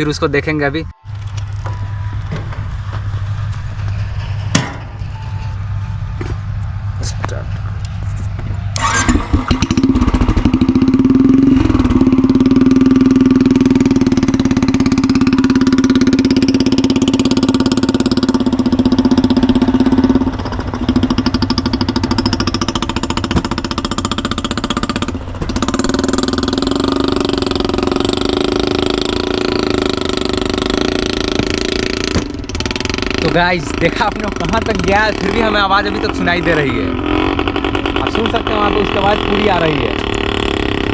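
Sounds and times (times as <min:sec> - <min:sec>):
motorcycle engine thumping: 0:01.0 - 0:40.9.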